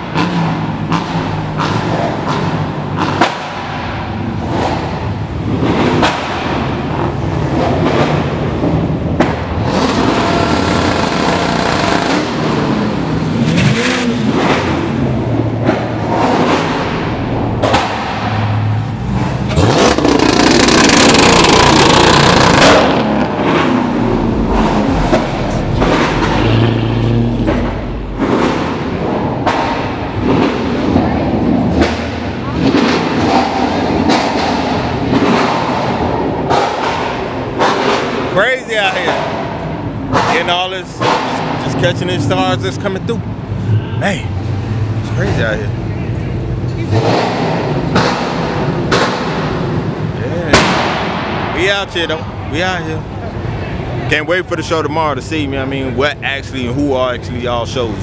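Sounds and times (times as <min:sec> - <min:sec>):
cars driving by and revving: 0:00.0 - 0:58.0.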